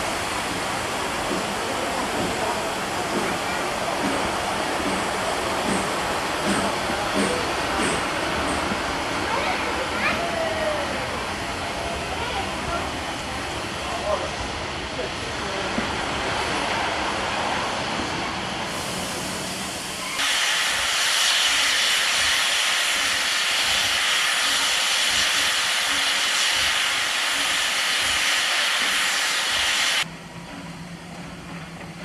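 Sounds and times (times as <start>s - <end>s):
steam locomotive hissing steam: 0.0s - 30.1s
train and station noise: 0.0s - 32.0s.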